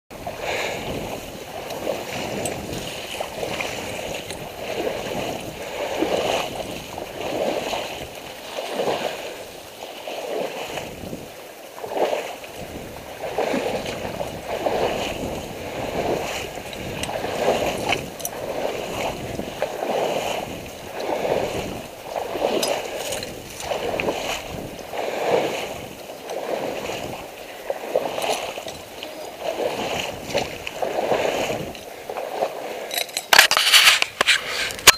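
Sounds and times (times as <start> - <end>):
water sloshing and swishing: 0.1 - 34.9.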